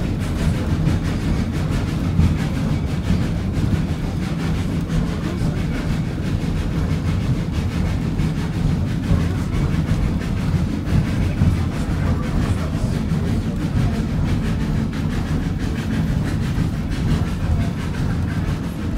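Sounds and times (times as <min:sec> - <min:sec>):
steam train rumbling: 0:00.0 - 0:18.9.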